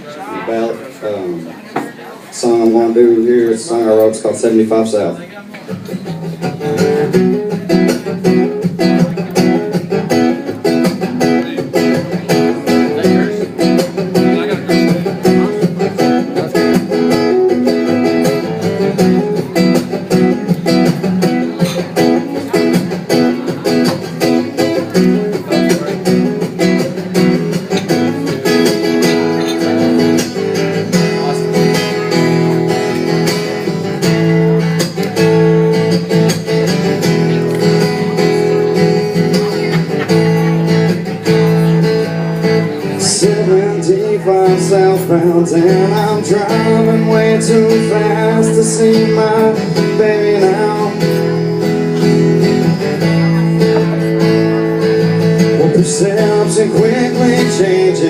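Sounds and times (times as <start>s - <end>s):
acoustic guitar strumming: 2.3s - 58.0s.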